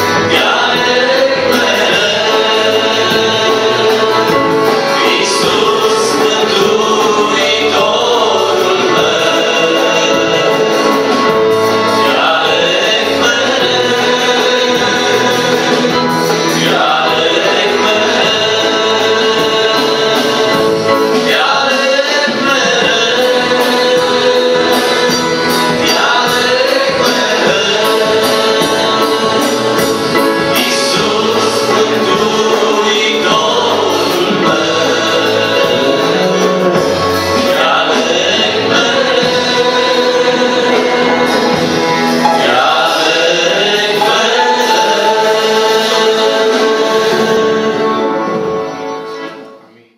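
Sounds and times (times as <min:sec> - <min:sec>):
drums and cymbals: 0:00.0 - 0:48.7
male vocal group singing: 0:00.0 - 0:49.0
accordion: 0:00.0 - 0:49.9.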